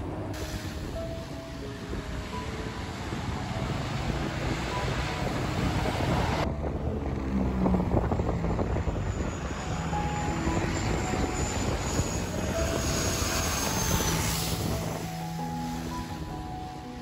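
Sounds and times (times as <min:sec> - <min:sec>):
propeller plane flying overhead: 0:00.0 - 0:17.0.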